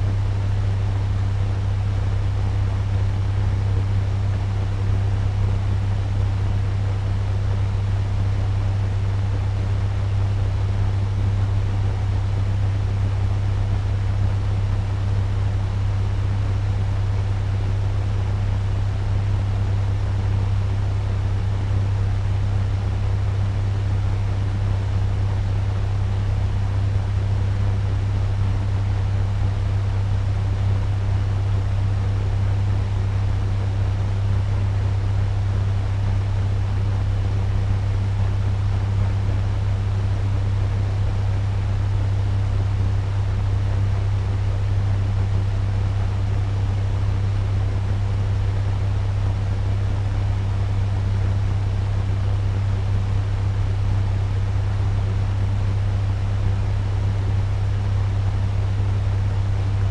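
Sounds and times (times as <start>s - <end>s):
fan running: 0.0s - 59.9s.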